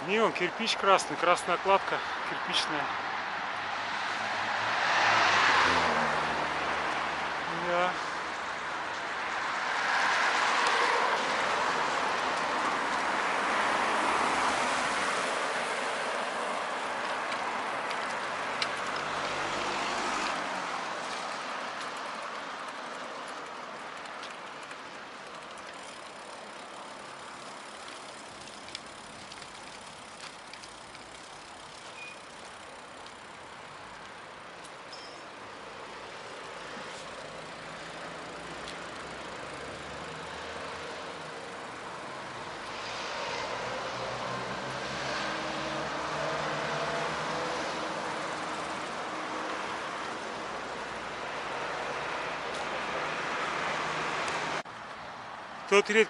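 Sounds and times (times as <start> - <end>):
passing vehicle tyre noise: 0.0 - 56.0.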